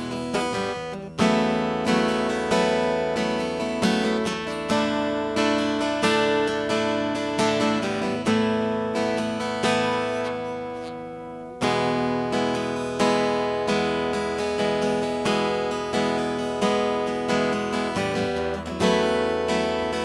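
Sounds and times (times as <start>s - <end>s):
acoustic guitar chords strummed: 0.0s - 20.0s.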